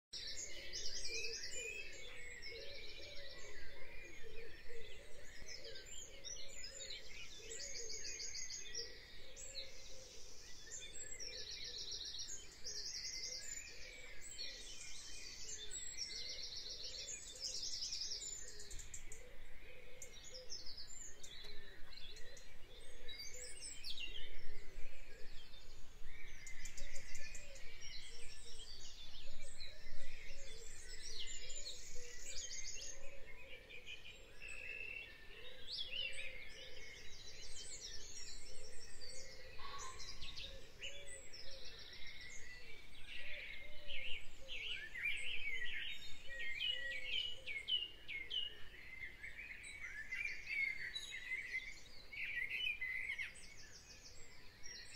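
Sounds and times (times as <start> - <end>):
birds chirping and trilling: 0.2 - 54.9.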